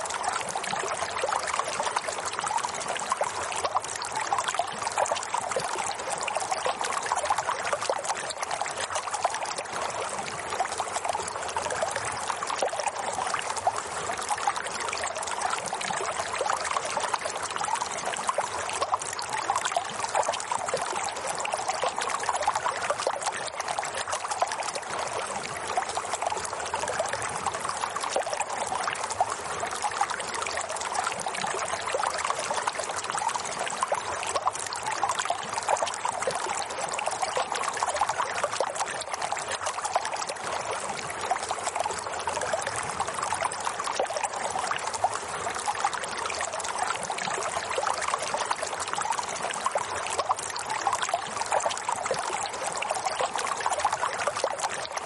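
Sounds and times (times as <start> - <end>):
water trickling and babbling: 0.0 - 55.0.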